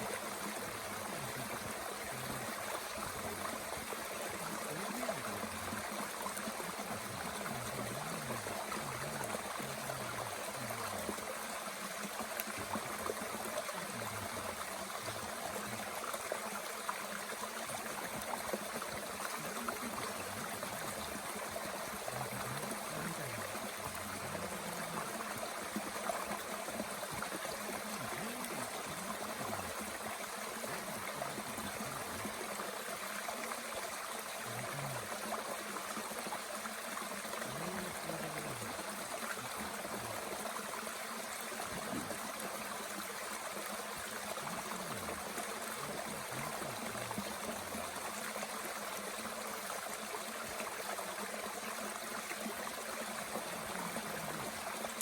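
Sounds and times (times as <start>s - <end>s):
stream rushing and gurgling: 0.0s - 55.0s.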